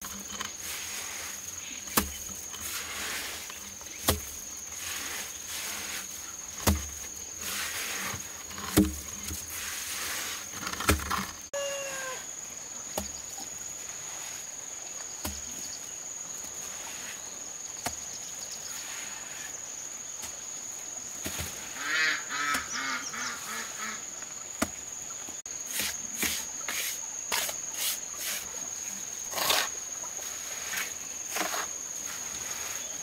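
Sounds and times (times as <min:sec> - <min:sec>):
high insect buzz: 0:00.0 - 0:33.0.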